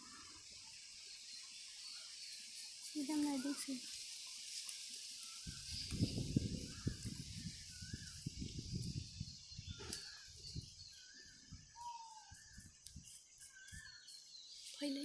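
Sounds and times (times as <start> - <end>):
small birds chirping: 0.0 - 15.0
steady high hiss: 0.0 - 15.0.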